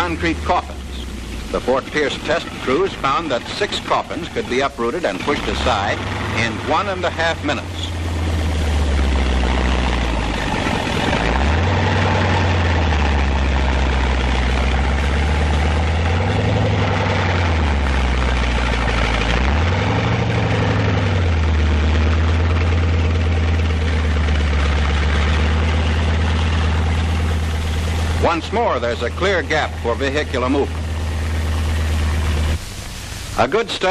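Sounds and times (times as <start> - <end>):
heavy tank engine revving: 0.0 - 33.9.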